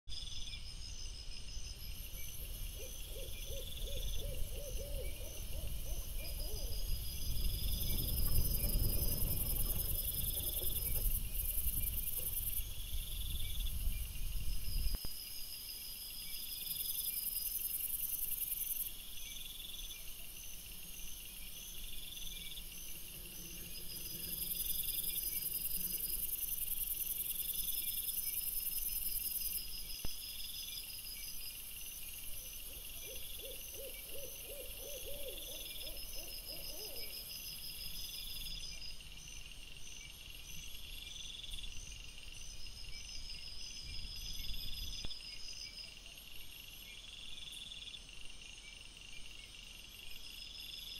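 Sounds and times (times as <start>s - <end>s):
crickets chirping: 0.1s - 50.9s
high continuous insect buzz: 0.1s - 50.9s.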